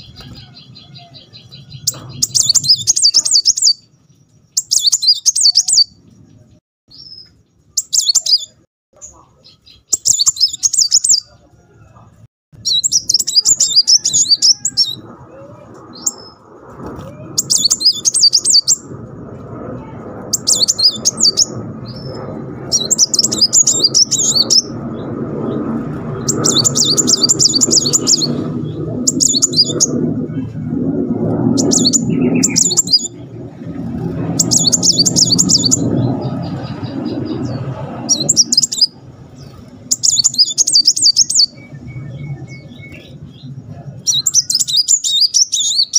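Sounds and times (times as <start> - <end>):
bird singing high trills: 0.0 - 11.4, 12.6 - 16.4, 17.2 - 18.9, 20.3 - 30.1, 31.5 - 33.2, 34.0 - 45.9.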